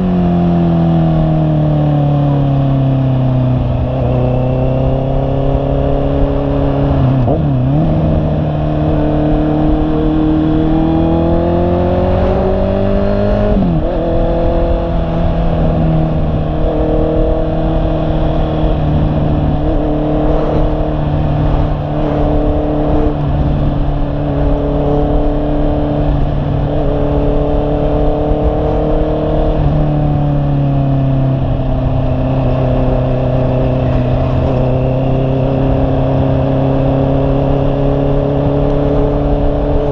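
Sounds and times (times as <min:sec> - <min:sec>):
motorcycle engine revving: 0:00.0 - 0:39.9
wind rushing on microphone: 0:00.0 - 0:39.9.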